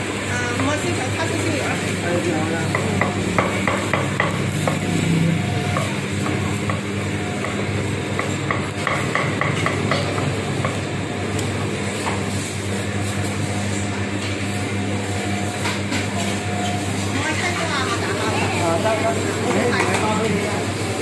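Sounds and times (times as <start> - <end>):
kitchen background noise: 0.0 - 21.0
steady low hum: 0.0 - 21.0.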